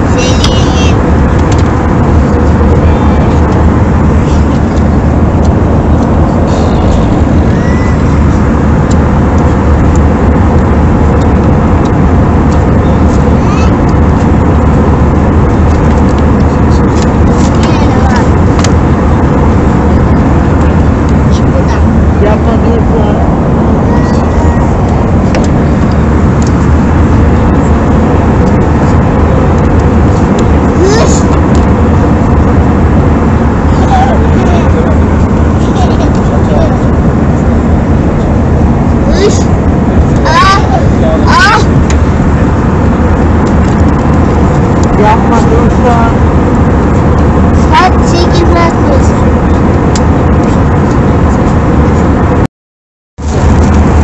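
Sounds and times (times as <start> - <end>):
airflow rushing over fuselage: 0.0 - 52.5, 53.2 - 54.0
airliner cabin noise: 0.0 - 52.5, 53.2 - 54.0
deep rumble: 0.0 - 52.5, 53.2 - 54.0
jet engines droning: 0.0 - 52.5, 53.2 - 54.0.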